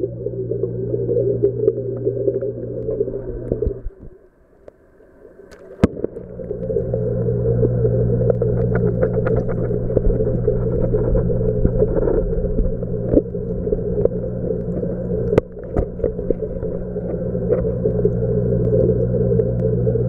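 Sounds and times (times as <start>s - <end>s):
aquarium equipment humming: 0.0s - 20.0s.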